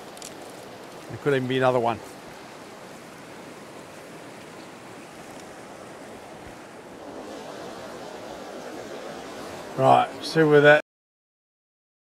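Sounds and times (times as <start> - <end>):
small stream running: 0.0 - 10.8.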